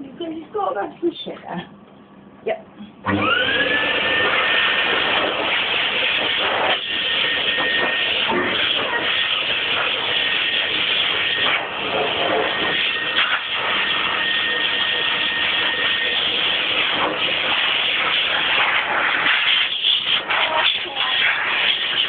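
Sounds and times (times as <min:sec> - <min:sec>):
dog dryer blowing air: 0:03.0 - 0:22.0.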